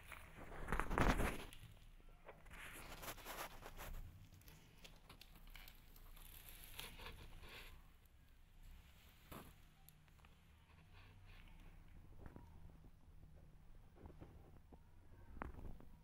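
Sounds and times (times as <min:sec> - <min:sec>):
faint rustling: 0:00.0 - 0:16.0.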